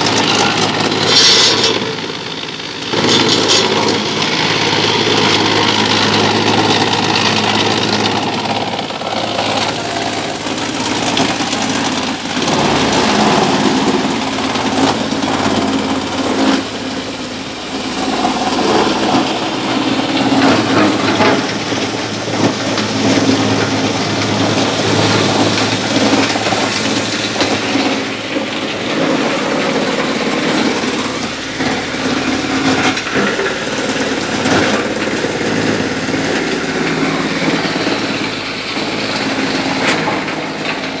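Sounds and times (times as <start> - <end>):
wood crusher grinding: 0.0 - 41.0.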